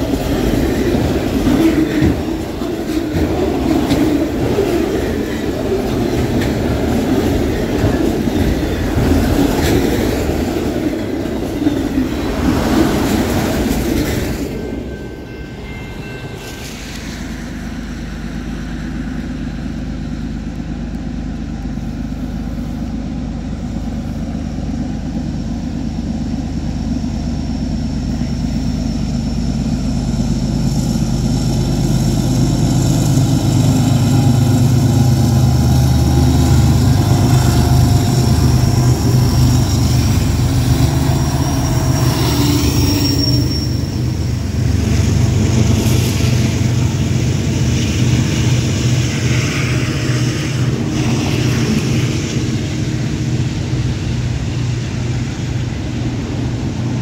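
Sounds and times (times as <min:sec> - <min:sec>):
train engine and wheel rumble: 0:00.0 - 0:57.0.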